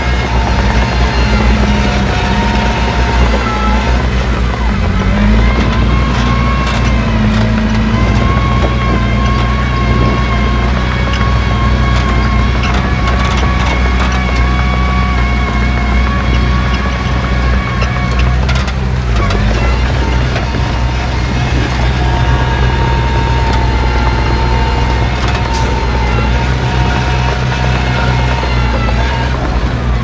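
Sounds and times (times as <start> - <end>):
diesel engine running: 0.0 - 30.0
high whine: 0.0 - 30.0.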